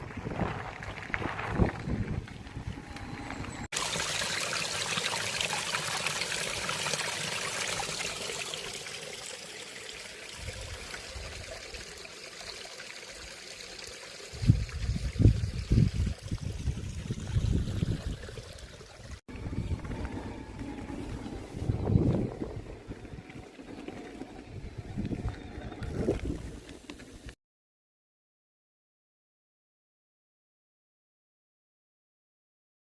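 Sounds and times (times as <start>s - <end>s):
stream trickling and rushing: 0.0s - 27.0s.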